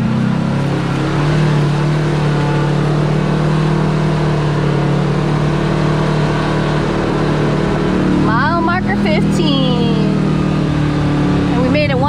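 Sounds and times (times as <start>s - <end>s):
utility vehicle engine under load: 0.0s - 12.0s.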